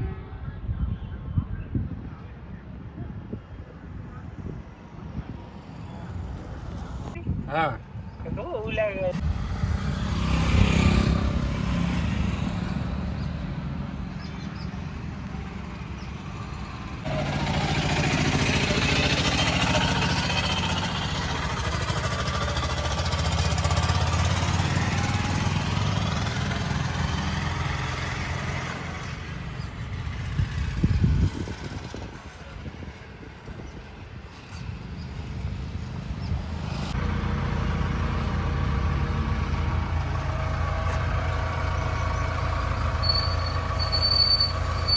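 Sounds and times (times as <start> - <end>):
diesel engines running: 3.6 - 7.2, 8.2 - 44.9.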